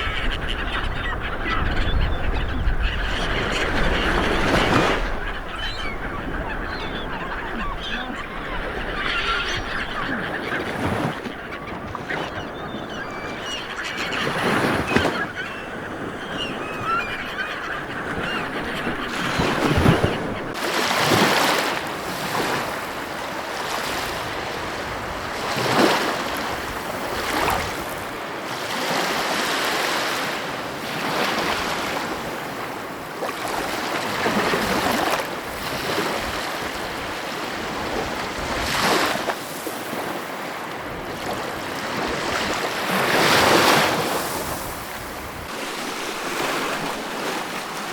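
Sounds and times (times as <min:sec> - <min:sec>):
ocean waves washing onto shore: 0:00.0 - 0:47.9.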